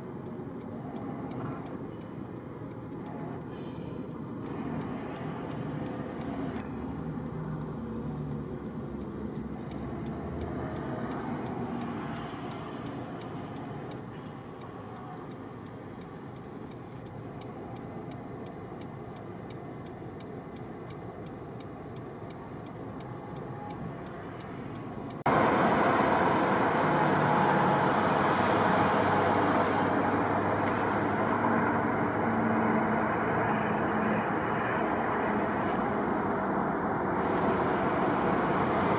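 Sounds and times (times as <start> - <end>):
road traffic noise: 0.0 - 38.9.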